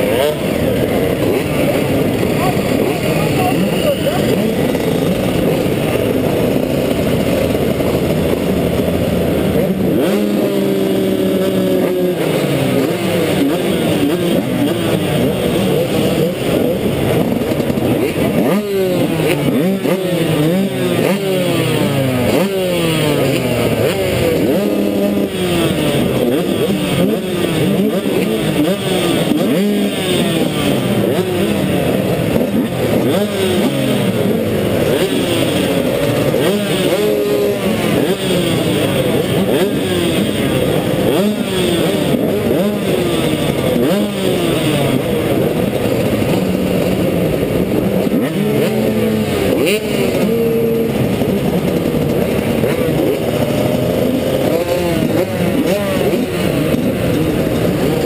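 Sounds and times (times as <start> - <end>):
motocross bikes revving engines: 0.0 - 58.0.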